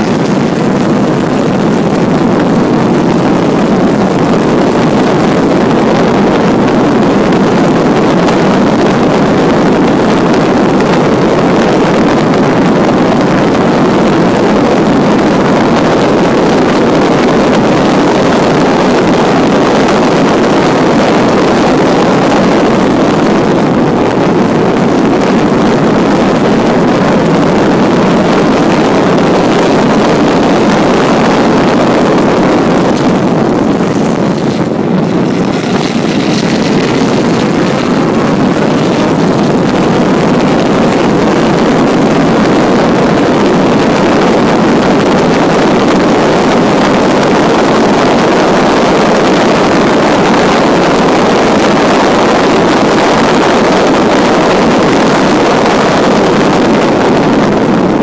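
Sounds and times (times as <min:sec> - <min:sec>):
wind rush: 0:00.0 - 0:58.0.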